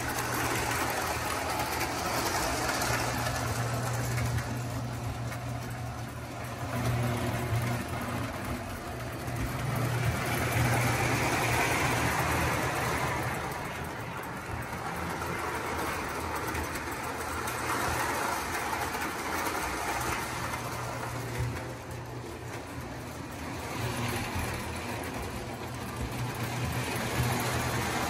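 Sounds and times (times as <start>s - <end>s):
model train hum: 0.0s - 28.0s
train wheels on rails: 0.0s - 28.0s.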